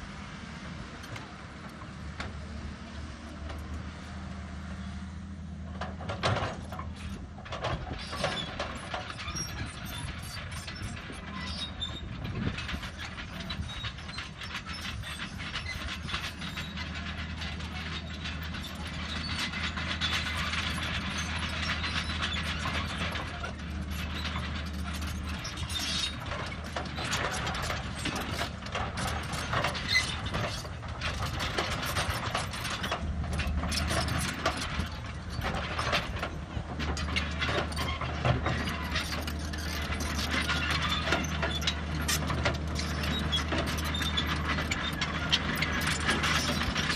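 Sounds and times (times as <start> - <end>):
excavator diesel engine droning: 0.0 - 46.9
metallic clattering and clanking: 5.6 - 46.9.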